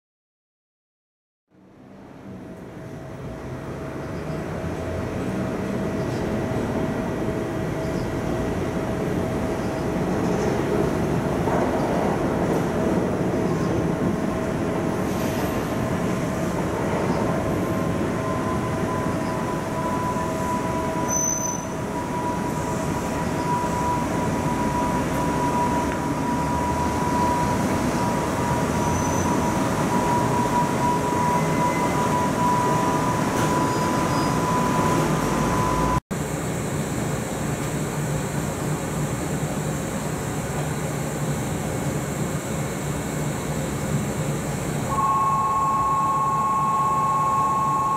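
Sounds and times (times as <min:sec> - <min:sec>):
electric train rumble and whine: 0:01.6 - 0:47.9.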